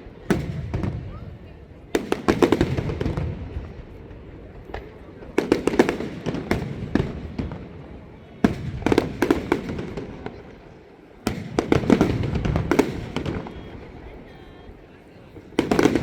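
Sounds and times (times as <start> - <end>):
fireworks sharp bangs: 0.0 - 16.0.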